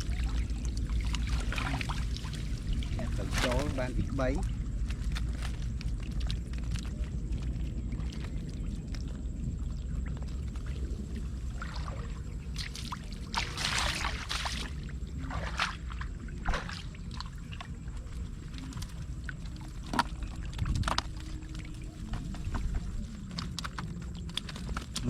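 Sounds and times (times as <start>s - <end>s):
steady low rumble: 0.0s - 25.0s
water splashing and sloshing: 0.0s - 25.0s.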